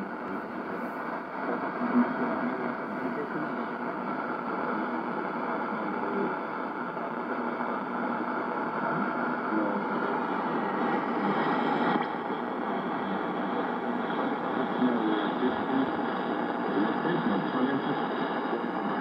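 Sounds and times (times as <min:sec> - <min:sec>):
faint voice on radio: 0:00.0 - 0:19.0
radio static hiss: 0:00.0 - 0:19.0.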